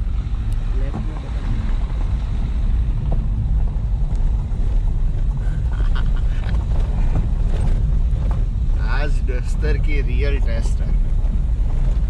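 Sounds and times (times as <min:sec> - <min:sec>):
engine and tyres rumbling on stones: 0:00.0 - 0:12.0.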